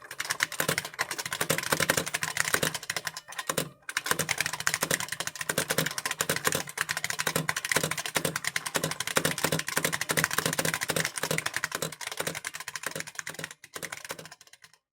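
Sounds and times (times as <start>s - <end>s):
fast keyboard typing: 0.0s - 14.9s.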